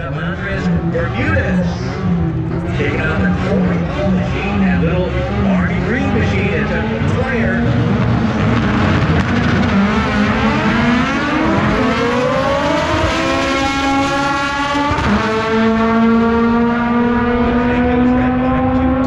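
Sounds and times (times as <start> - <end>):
drag race cars accelerating: 0.0 - 19.0.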